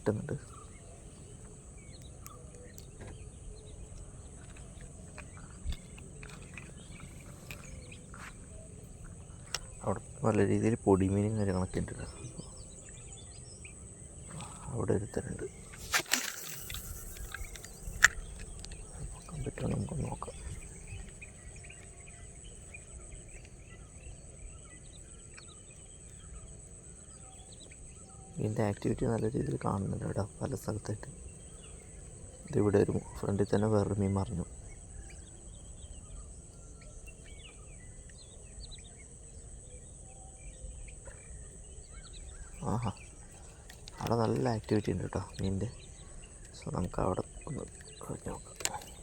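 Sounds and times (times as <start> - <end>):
bird chirps: 0.0 - 49.0
insects buzzing: 0.0 - 49.0.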